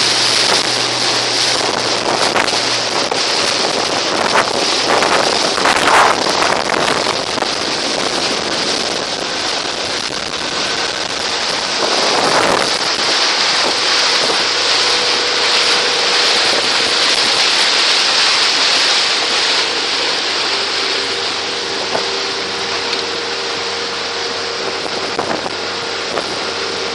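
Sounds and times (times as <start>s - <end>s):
water churning in boat wake: 0.0s - 26.9s
wind rushing over microphone: 0.0s - 26.9s.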